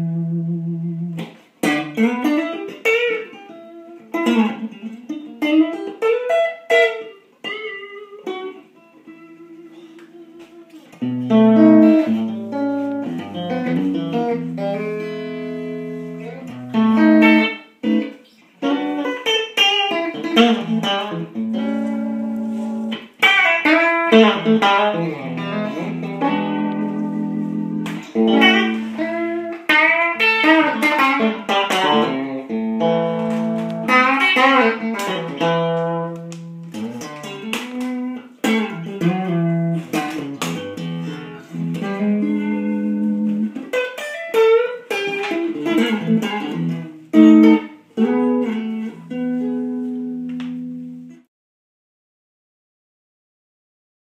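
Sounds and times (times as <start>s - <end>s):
electric guitar playing: 0.0s - 51.3s.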